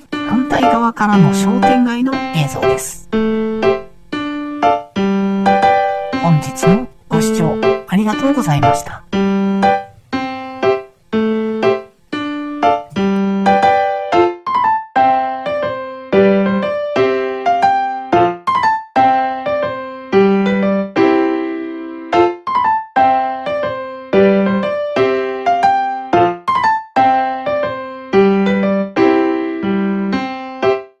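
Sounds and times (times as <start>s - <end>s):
slow piano melody: 0.0s - 31.0s.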